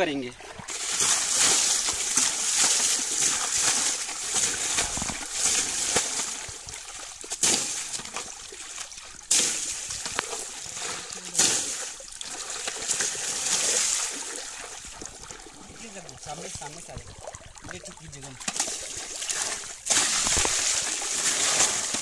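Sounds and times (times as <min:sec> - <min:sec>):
water splashing onto motorcycle: 0:00.6 - 0:22.0.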